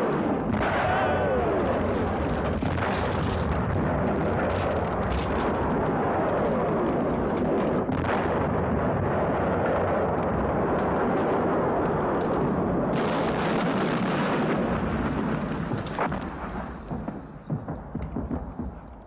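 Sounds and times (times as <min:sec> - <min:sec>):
gunfire: 0:00.0 - 0:19.0
sharp cracks: 0:00.0 - 0:19.0
shell explosions: 0:00.0 - 0:19.0.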